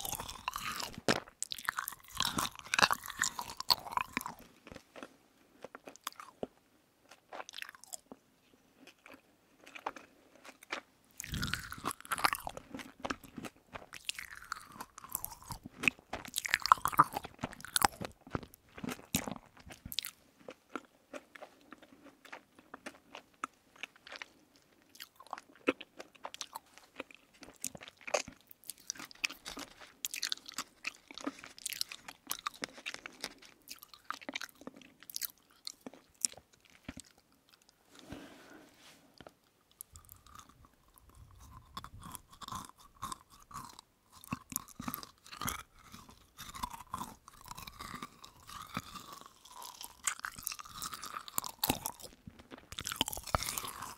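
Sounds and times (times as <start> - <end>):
crunchy chewing of sugary jellies: 0.0 - 38.4, 39.2 - 53.9.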